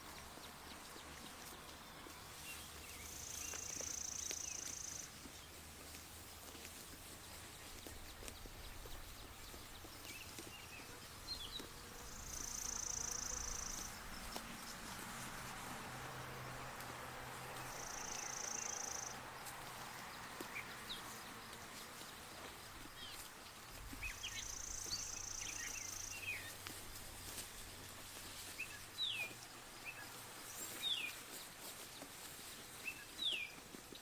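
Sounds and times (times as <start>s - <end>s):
small birds chirping: 0.0s - 16.8s, 17.5s - 32.1s, 32.8s - 34.0s.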